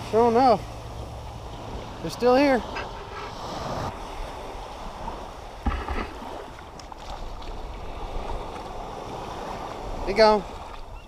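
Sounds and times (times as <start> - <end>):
small waves washing on beach: 0.0 - 11.0
wind rumbling on microphone: 0.0 - 11.0.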